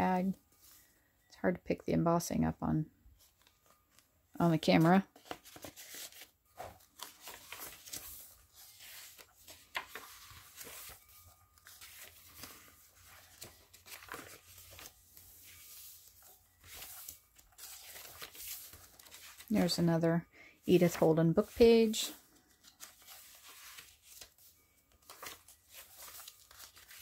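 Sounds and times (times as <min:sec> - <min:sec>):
paper pages rustling: 0:03.2 - 0:20.0, 0:20.7 - 0:27.0.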